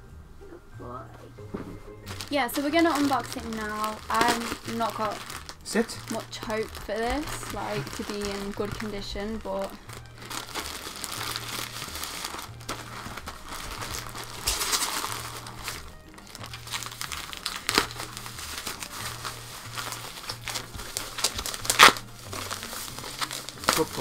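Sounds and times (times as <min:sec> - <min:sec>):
background music: 0:00.0 - 0:24.0
bubble wrap crackling: 0:02.0 - 0:24.0
plastic packaging crinkling: 0:02.1 - 0:24.0.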